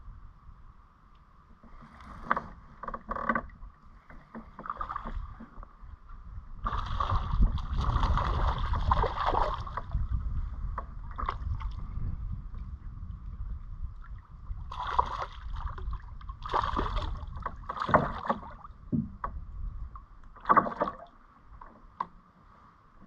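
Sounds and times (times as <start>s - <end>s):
low rumble of kayak on water: 0.0s - 23.0s.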